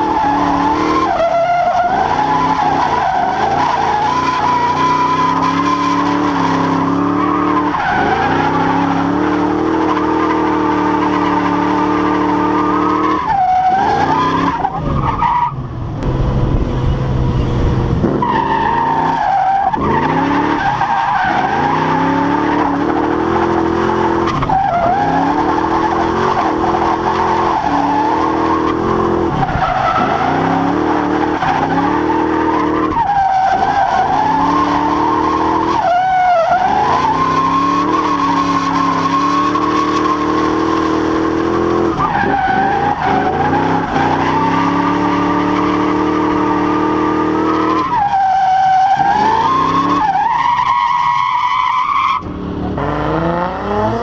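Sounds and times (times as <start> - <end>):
car engine revving hard: 0.0 - 14.8, 16.0 - 54.0.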